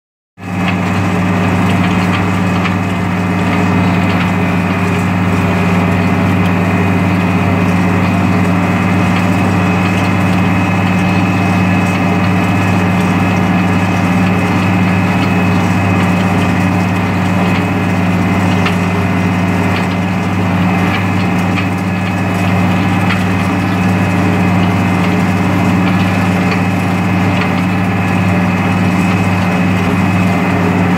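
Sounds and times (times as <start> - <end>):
tractor engine drone: 0.4 - 30.9.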